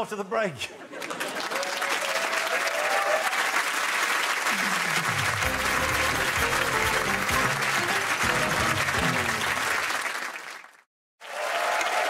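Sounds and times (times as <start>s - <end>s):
audience applauding: 1.0s - 12.0s.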